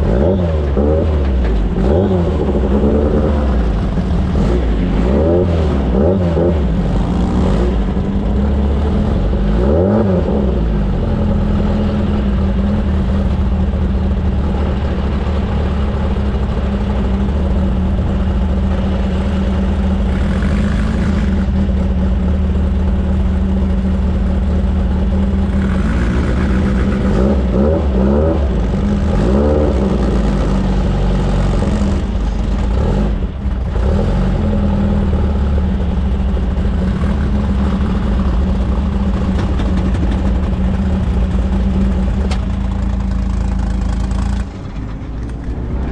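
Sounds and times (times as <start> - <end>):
race vehicle engine revving: 0.0 - 45.9.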